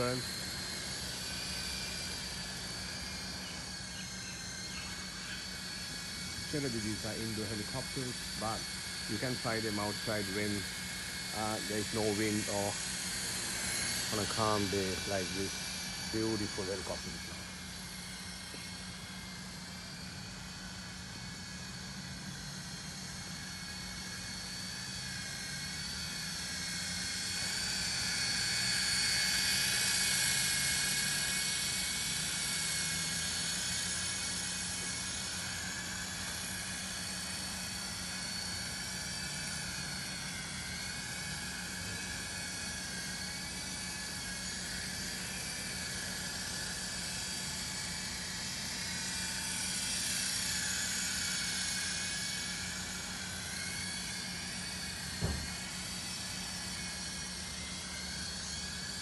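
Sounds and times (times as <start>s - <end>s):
toy helicopter rotor whine: 0.0s - 59.0s.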